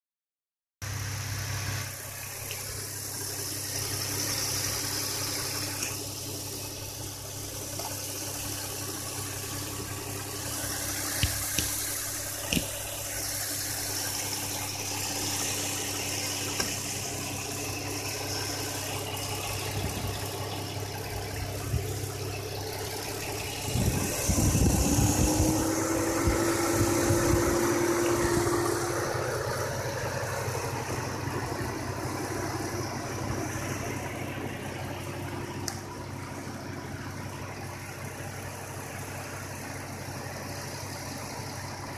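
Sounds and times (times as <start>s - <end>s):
car engine idling: 0.8s - 41.9s.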